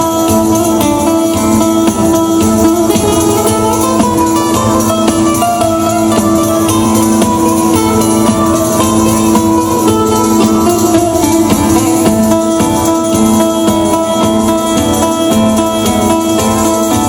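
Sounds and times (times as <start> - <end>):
accordion held notes: 0.0 - 17.0
guitar strumming: 0.0 - 17.0
jingling frame drum: 0.0 - 17.0.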